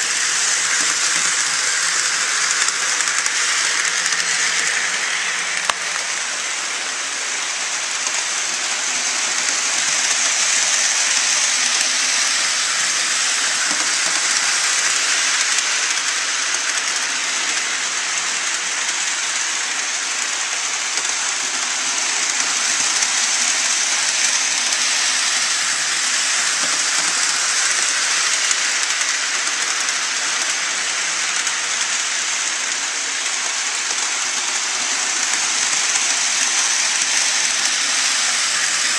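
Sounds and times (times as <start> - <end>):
model train running on track: 0.0 - 38.9.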